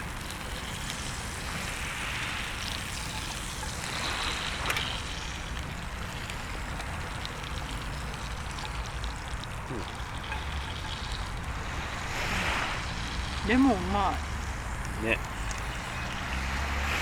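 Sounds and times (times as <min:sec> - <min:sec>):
waves washing in: 0:00.0 - 0:07.3, 0:09.6 - 0:17.0.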